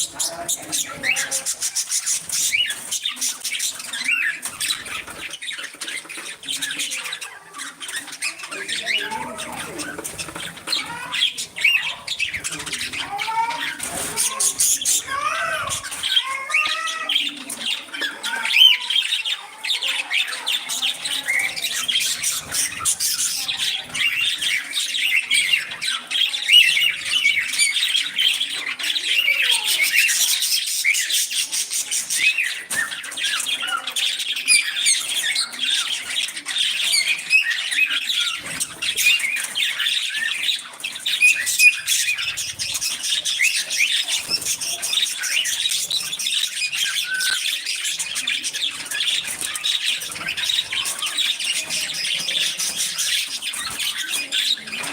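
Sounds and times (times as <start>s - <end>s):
budgies chattering and squawking: 0.0s - 54.9s.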